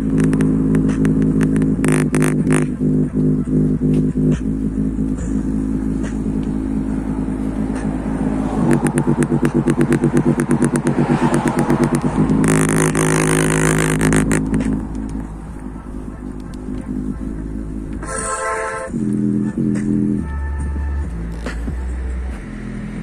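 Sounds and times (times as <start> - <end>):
bass-heavy electronic music on speaker: 0.0 - 23.0.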